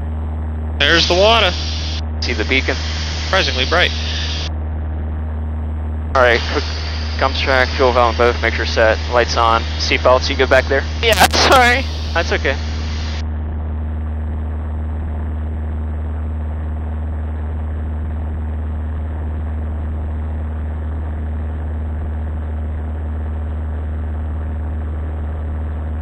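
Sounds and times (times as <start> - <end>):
airplane engine and propeller drone: 0.0 - 26.0.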